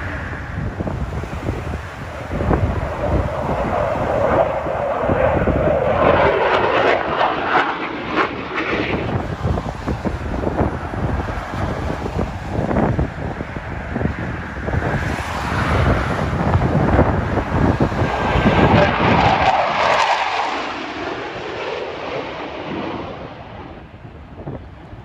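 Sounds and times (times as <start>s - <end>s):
jets flying over: 0.0s - 25.0s.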